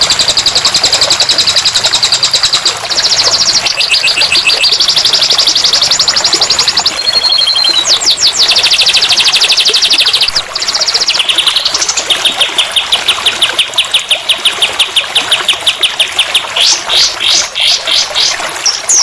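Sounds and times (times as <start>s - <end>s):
songbird trilling: 1.5s - 19.0s.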